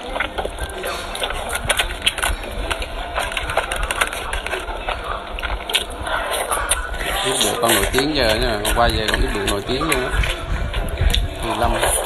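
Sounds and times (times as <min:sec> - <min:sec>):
aluminium foil crackling: 0:00.0 - 0:12.0
chicken pulled apart and chewed: 0:00.0 - 0:12.0.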